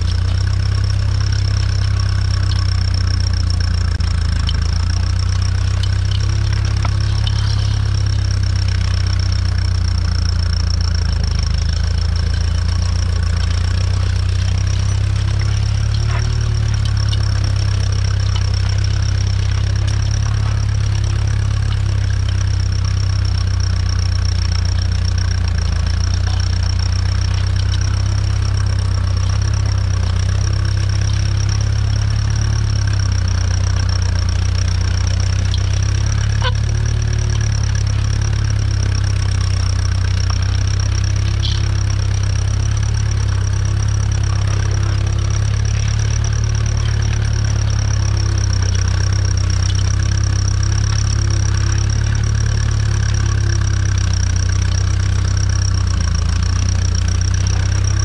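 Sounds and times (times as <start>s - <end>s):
high whine: 0.0s - 58.0s
tractor engine under load: 0.0s - 58.0s.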